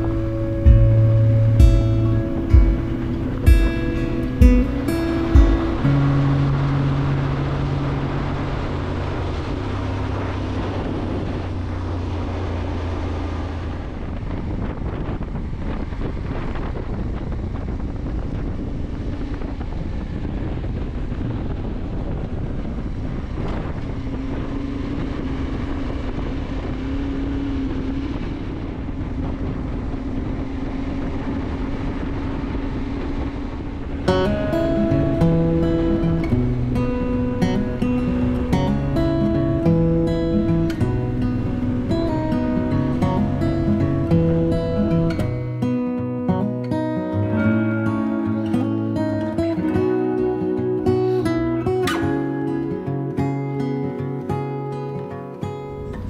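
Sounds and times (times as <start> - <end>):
motorcycle engine running: 0.0 - 45.5
wind buffeting microphone: 0.0 - 54.8, 55.4 - 56.0.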